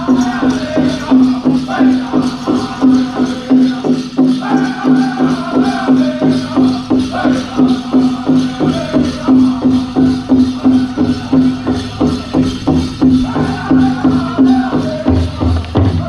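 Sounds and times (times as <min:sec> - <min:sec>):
big drum beating steadily: 0:00.0 - 0:16.0
group singing high-pitched: 0:00.0 - 0:16.0.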